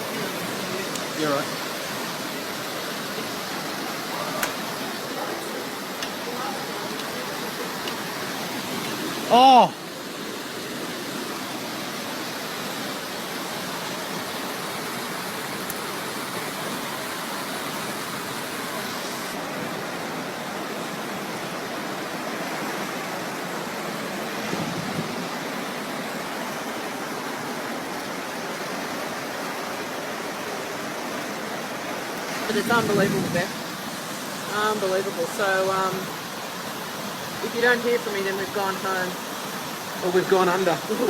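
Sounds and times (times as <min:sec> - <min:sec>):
floodwater rushing: 0:00.0 - 0:41.0.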